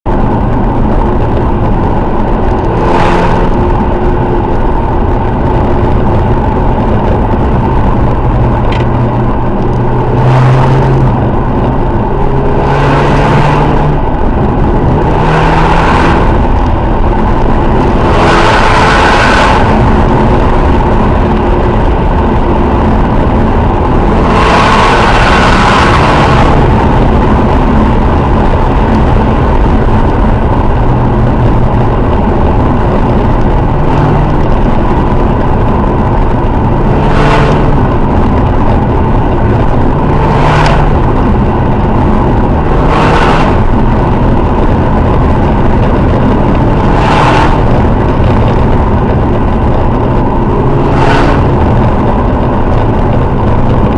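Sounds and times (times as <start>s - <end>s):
car engine exhaust revving: 0.0s - 53.9s.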